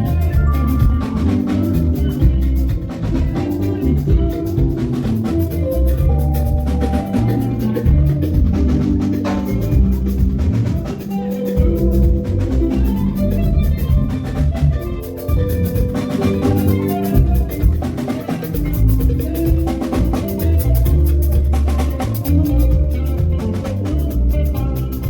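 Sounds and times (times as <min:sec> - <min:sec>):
band music with drums and bass: 0:00.0 - 0:25.0.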